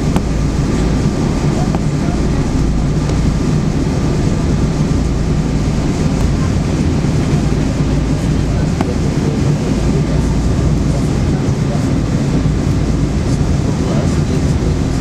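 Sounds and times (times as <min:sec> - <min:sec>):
airplane cabin engine rumble: 0:00.0 - 0:15.0
faint steady engine whine: 0:00.0 - 0:15.0.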